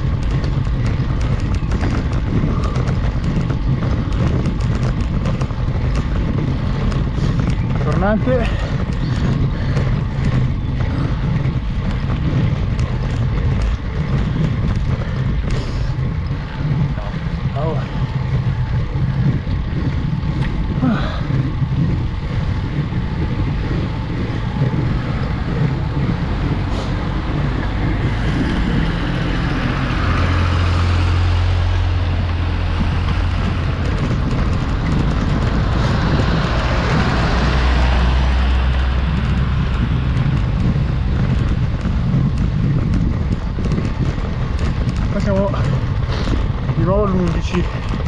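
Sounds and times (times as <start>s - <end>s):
passing vehicle engine hum: 0.0s - 48.0s
road and wind rumble: 0.0s - 48.0s.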